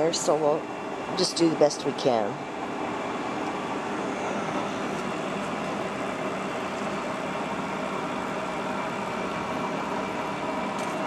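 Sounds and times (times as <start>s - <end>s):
machine shop hum: 0.0s - 11.0s.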